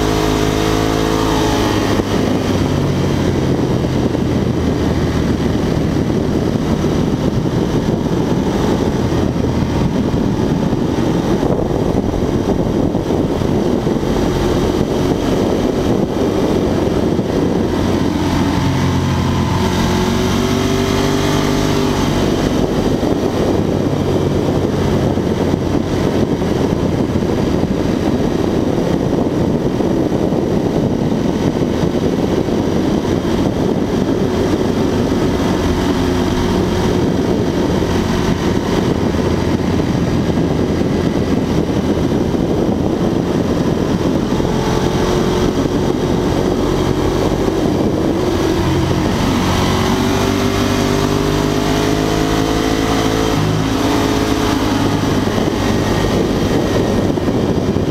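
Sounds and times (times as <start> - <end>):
motorcycle engine running: 0.0 - 57.9
wind rush on microphone: 0.0 - 57.9.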